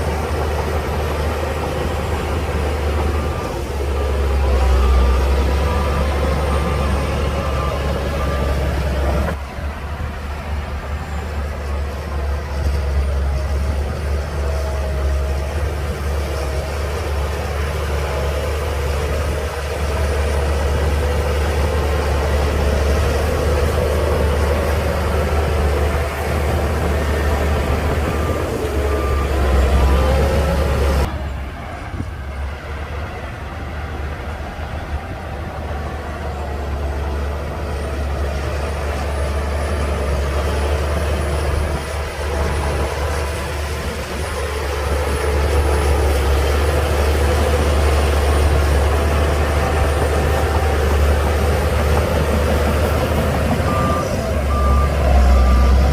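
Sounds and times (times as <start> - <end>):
bulldozer diesel engine droning: 0.0 - 55.9.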